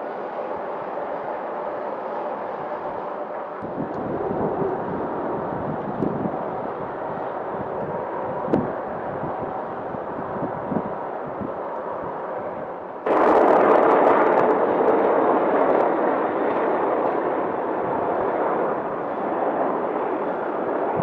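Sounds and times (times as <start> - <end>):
steady rushing roar: 0.0 - 21.0.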